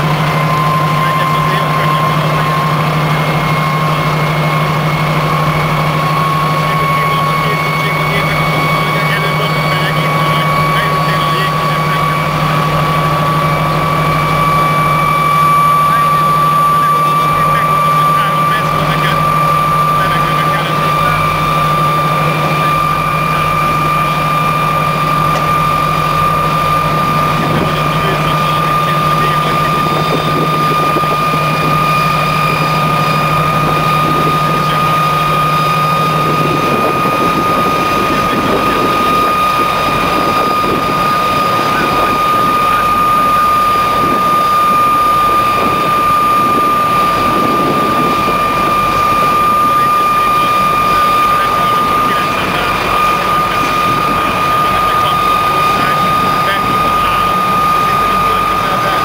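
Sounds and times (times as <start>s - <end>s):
jet engine idling whine: 0.0s - 59.0s
low hum: 0.0s - 59.0s.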